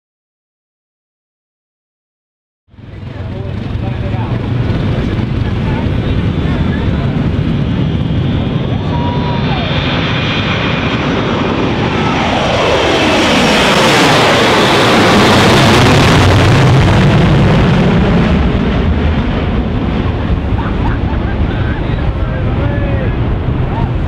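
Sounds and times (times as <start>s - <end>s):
jet airliner roaring overhead: 2.7s - 24.0s.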